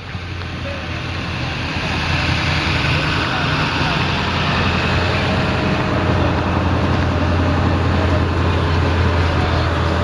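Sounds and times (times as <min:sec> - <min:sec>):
constant rushing noise: 0:00.0 - 0:10.0
low engine hum: 0:00.0 - 0:10.0.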